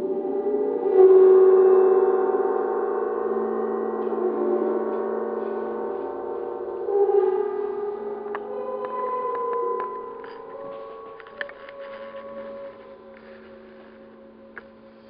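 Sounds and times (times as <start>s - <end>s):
gong sustained tones: 0.0s - 15.0s.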